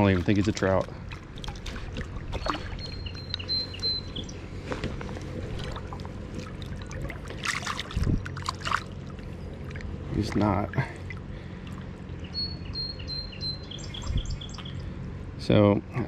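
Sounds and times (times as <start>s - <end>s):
creek water splashing: 0.0s - 15.1s.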